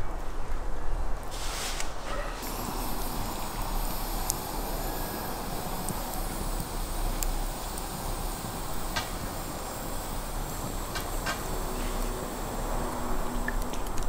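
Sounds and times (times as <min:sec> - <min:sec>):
fire crackling: 0:01.2 - 0:14.0
steady rushing noise: 0:01.9 - 0:14.0.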